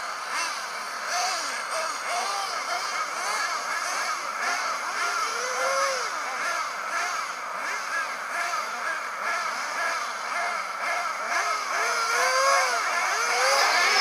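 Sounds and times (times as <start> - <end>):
small engines revving: 0.0 - 14.0.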